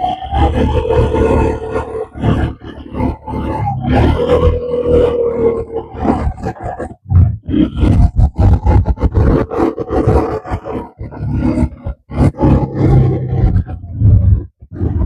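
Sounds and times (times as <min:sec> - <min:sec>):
quad bike engine revving: 0:00.0 - 0:15.0.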